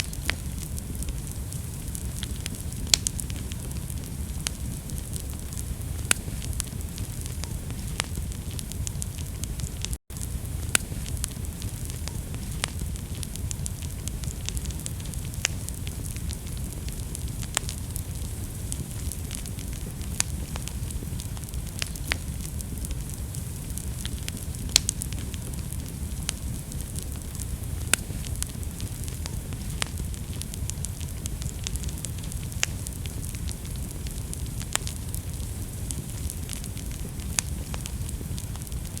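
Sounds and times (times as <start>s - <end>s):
fire crackling and popping: 0.0s - 39.0s.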